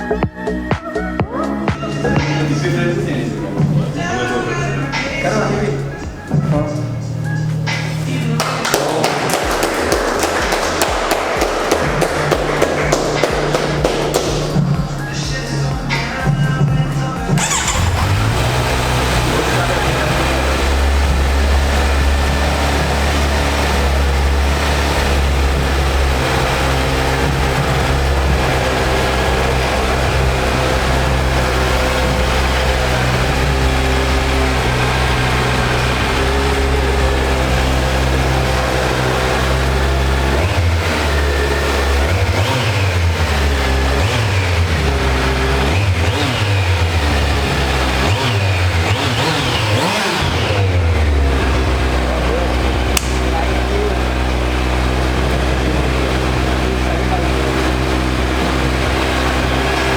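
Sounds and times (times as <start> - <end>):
motorcycle engine idling and revving: 1.8 - 59.9.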